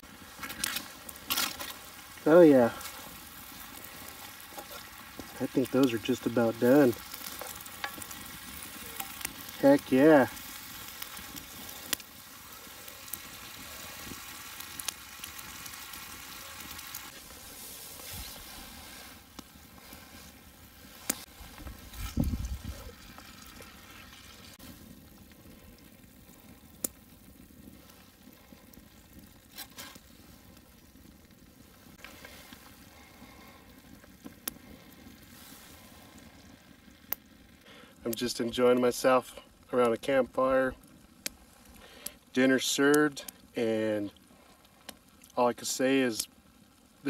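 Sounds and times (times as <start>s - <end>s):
meat sizzling in a pan: 0.0s - 47.0s.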